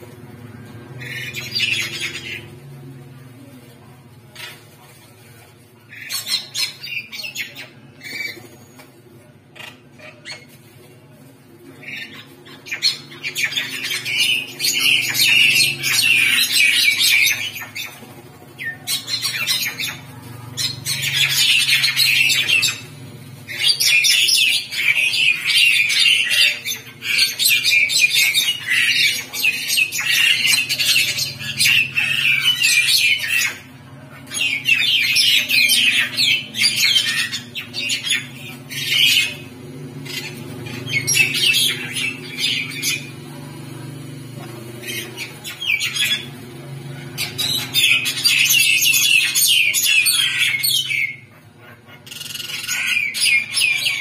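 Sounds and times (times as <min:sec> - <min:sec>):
birds squawking harshly: 0:00.0 - 0:02.8, 0:05.8 - 0:54.0.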